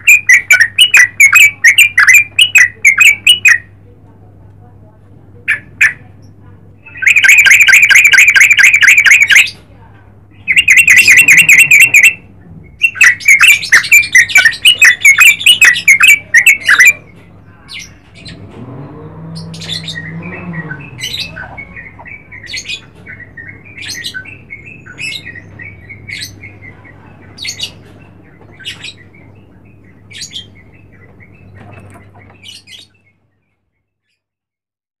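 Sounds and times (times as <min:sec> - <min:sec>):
bird singing rapid notes: 0:00.0 - 0:03.7, 0:06.8 - 0:09.6, 0:10.3 - 0:18.4, 0:19.2 - 0:34.2.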